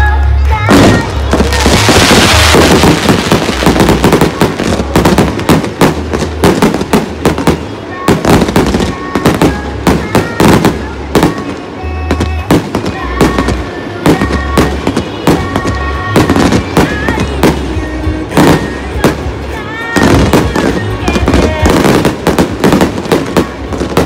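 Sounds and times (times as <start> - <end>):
fireworks bangs: 0.4 - 24.0.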